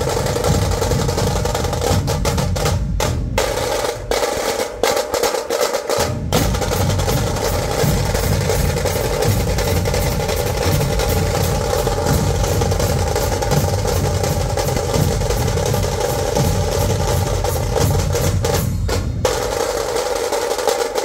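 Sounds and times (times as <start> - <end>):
barrel drums beaten with sticks: 0.0 - 21.0.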